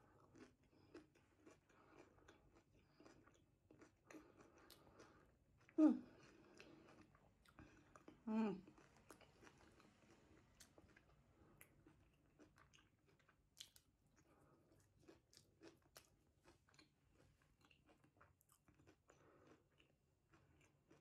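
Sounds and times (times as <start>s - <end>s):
chewing pastry: 0.0s - 21.0s.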